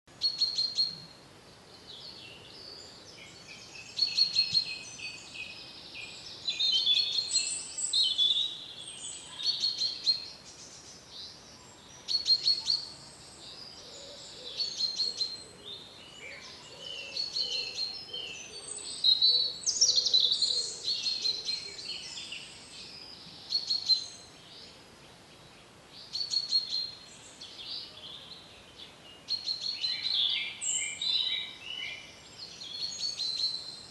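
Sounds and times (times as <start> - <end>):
songbirds singing: 0.1 - 33.9.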